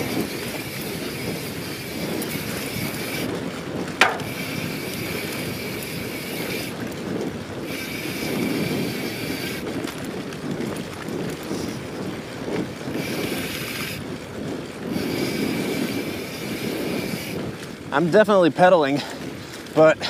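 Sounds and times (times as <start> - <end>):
bike freehub buzzing: 0.0 - 17.8
wind on microphone: 0.0 - 20.0.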